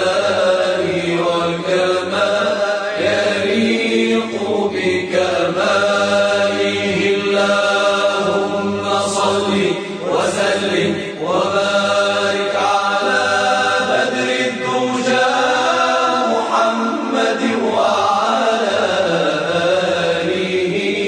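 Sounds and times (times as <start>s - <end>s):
devotional chanting: 0.0s - 21.0s.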